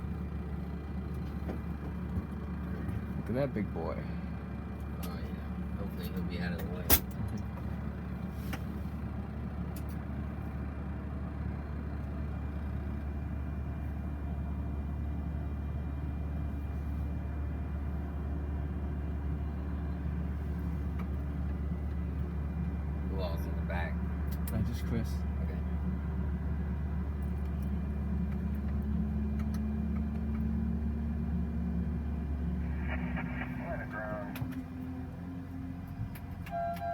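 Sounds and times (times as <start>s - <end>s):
low machinery drone: 0.0s - 36.9s.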